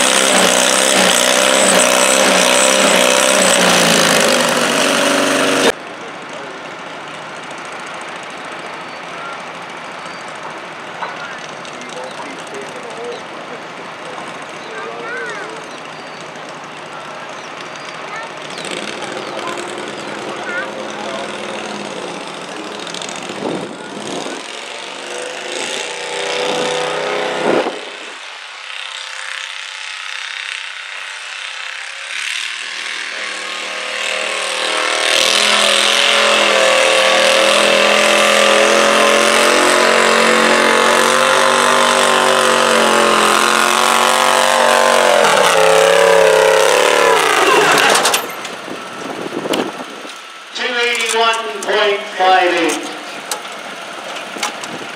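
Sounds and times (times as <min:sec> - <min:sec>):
garden tractor engine labouring: 0:00.0 - 0:54.9.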